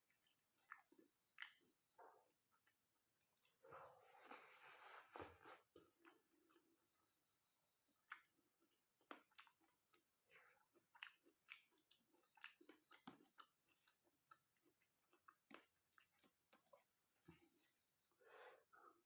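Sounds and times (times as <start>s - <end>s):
person chewing food: 0.0s - 7.2s, 7.9s - 19.0s.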